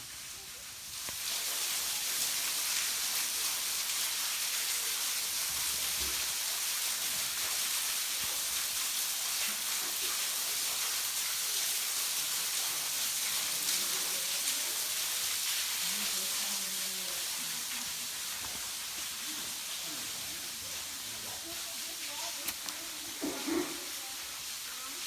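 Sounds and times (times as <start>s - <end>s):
waterfall splashing onto rock: 0.0s - 25.0s.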